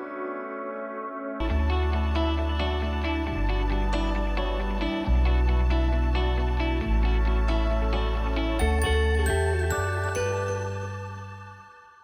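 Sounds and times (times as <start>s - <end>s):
background music with sustained tones: 0.0s - 12.0s
bass and fuller beat: 1.4s - 11.4s.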